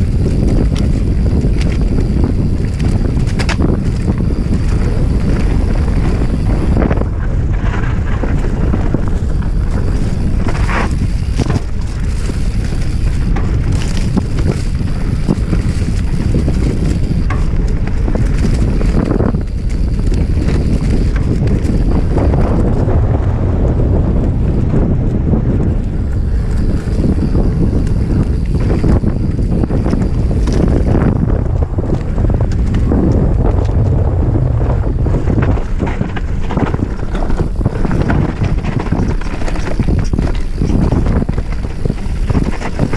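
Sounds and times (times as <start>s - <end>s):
steady low rumble: 0.0s - 42.9s
wind buffeting microphone: 0.0s - 42.9s.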